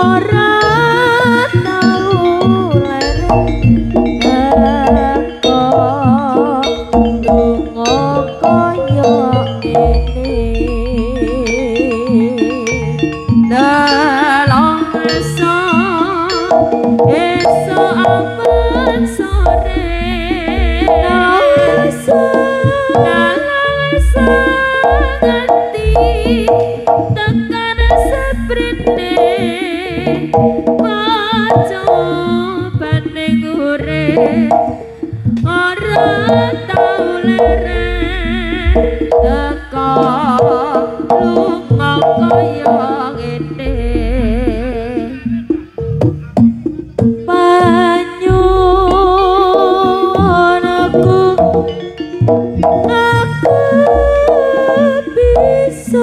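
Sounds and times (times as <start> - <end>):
gongs: 0.0 - 32.7, 33.8 - 46.9, 47.6 - 56.0
gamelan music: 0.0 - 56.0
hand drums: 0.0 - 56.0
high wavering melody: 0.0 - 56.0.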